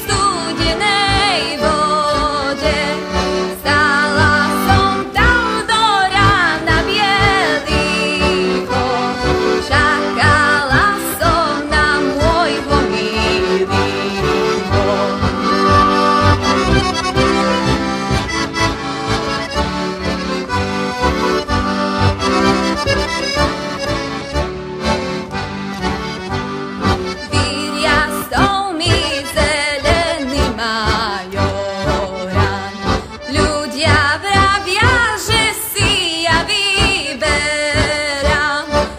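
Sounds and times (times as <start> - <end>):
button accordion playing folk tune: 0.0 - 38.9.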